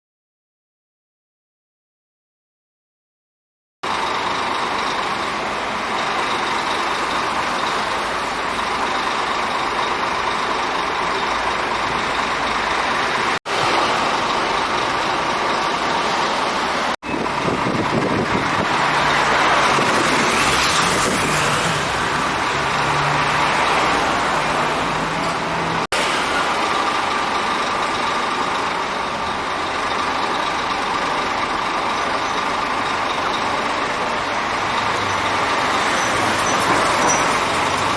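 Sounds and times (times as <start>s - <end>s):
bus diesel engine running: 3.8s - 37.9s
road vehicle noise: 3.8s - 37.9s.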